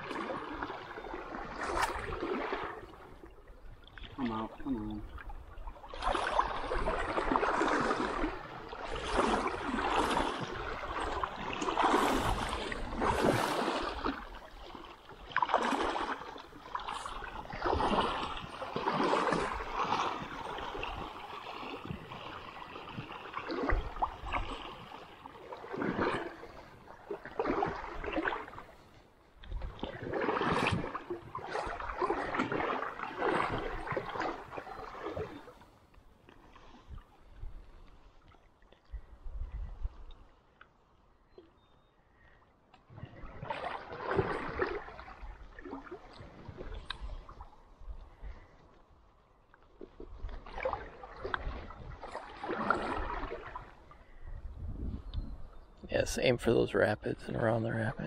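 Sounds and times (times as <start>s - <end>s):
running stream water: 0.0s - 58.0s
water sloshing and splashing: 0.0s - 58.0s.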